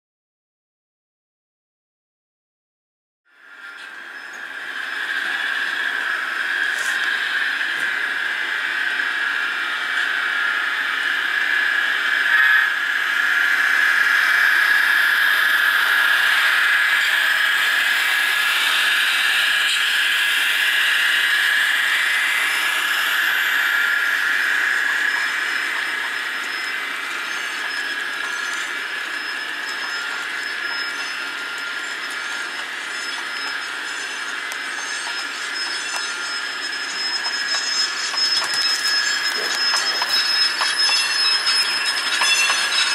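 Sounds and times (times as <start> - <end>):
model train whine and hiss: 3.3 - 42.9.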